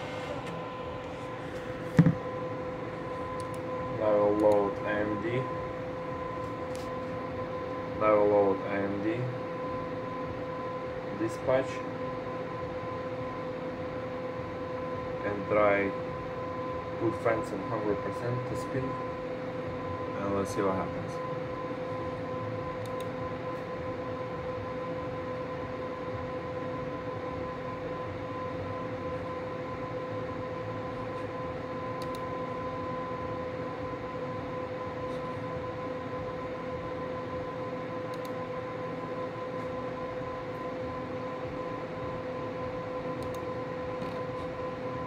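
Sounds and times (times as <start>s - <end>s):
computer cooling fans humming: 0.0s - 45.0s.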